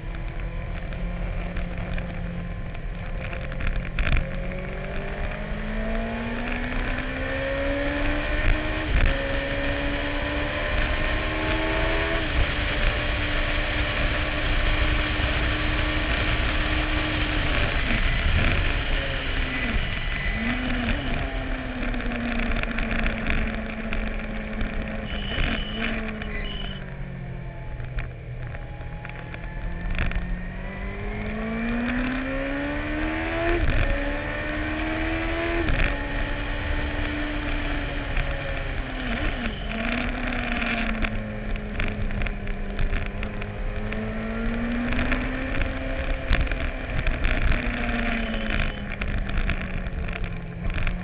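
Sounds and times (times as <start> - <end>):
wind noise on microphone: 0.0 - 51.0
racing engine revving through gears: 3.5 - 26.8, 28.7 - 51.0.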